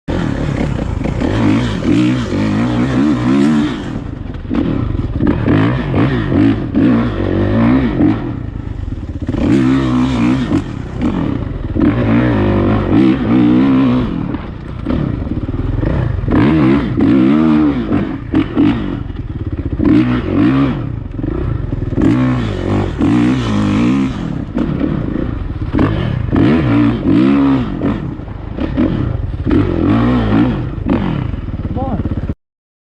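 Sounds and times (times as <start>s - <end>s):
dirt bike engine revving: 0.1s - 32.4s.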